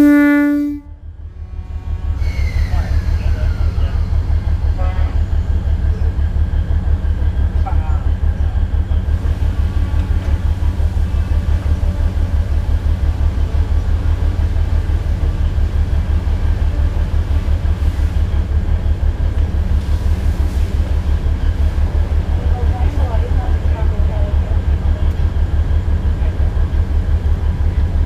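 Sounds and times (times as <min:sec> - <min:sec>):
diesel locomotive engine rumble: 0:00.0 - 0:28.0
rail noise: 0:00.0 - 0:28.0.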